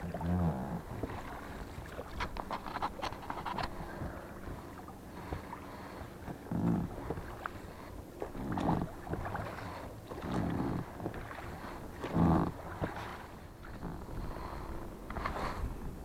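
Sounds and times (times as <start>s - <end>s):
oar strokes in water: 0.0s - 16.0s.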